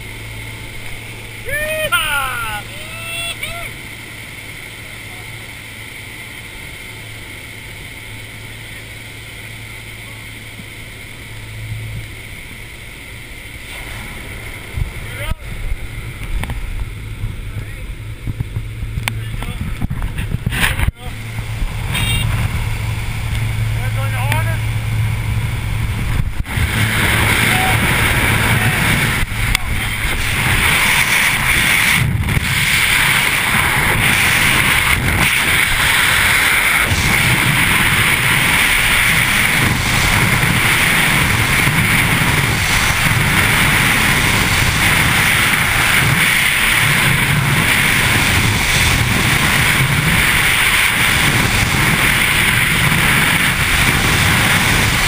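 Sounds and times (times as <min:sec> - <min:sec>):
aircraft engine drone: 0:00.0 - 0:55.0
wind buffeting microphone: 0:10.6 - 0:55.0.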